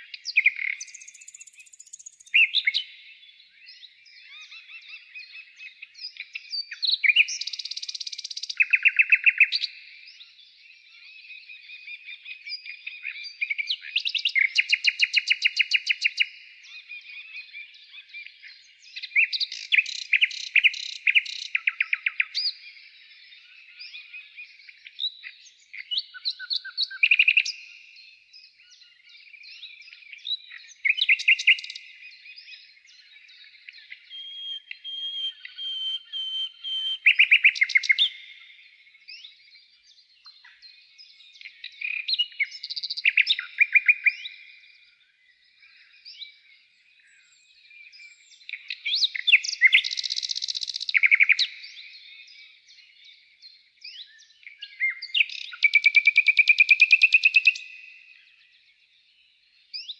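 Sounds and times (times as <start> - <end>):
birds twittering and chirping: 0.0 - 59.9
songbirds singing: 0.0 - 59.9.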